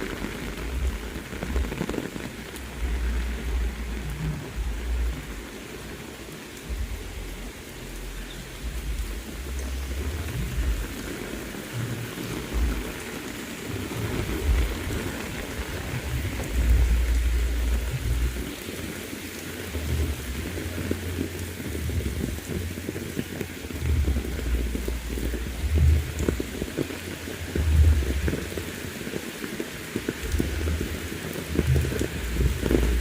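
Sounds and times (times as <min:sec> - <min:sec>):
low rumbles: 0:00.0 - 0:29.0, 0:29.9 - 0:33.0
heavy rain falling: 0:00.0 - 0:33.0.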